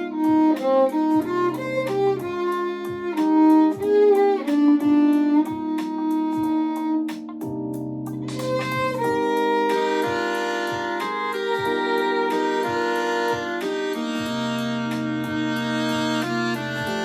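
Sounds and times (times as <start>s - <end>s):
pop backing track with beat: 0.0s - 17.0s
violin melody: 0.0s - 17.0s.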